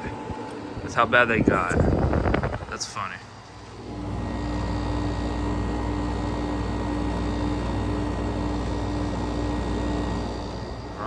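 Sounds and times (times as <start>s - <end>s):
air conditioner fan rushing: 0.0s - 11.0s.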